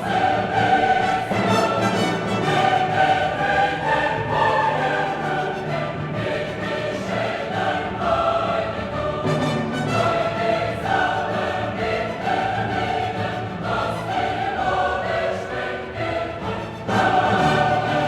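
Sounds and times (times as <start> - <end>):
choir singing with orchestra: 0.0 - 18.0.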